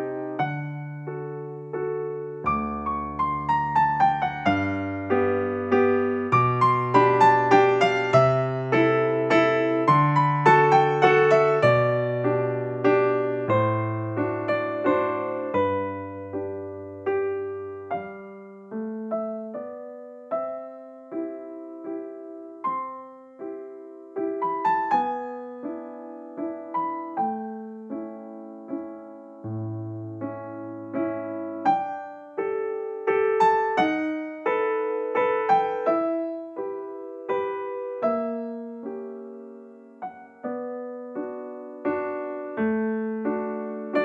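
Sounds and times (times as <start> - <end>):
slow piano tune: 0.0 - 44.0.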